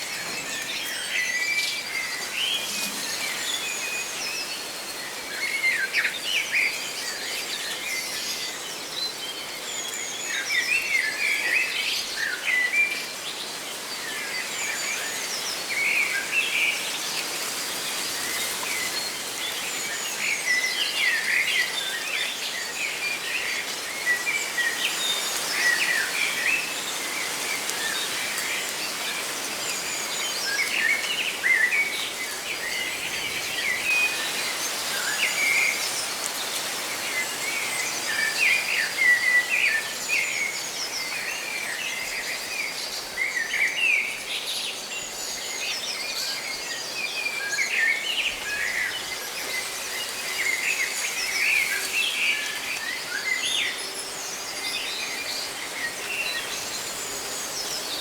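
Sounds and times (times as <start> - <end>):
leaves rustling: 0.0 - 8.8, 12.2 - 58.0.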